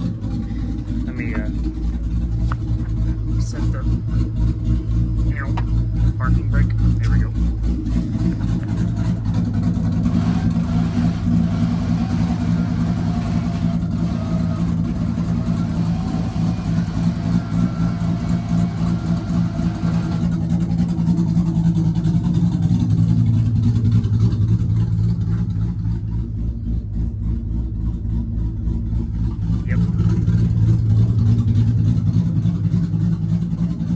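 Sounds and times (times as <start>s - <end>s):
car engine running loudly: 0.0s - 33.9s.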